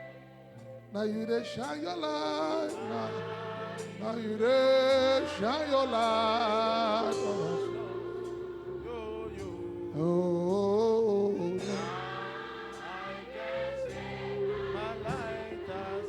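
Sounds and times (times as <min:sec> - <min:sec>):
choir chords: 0:00.0 - 0:16.0
keyboard chords: 0:00.0 - 0:16.0
man singing with vibrato: 0:00.9 - 0:16.0.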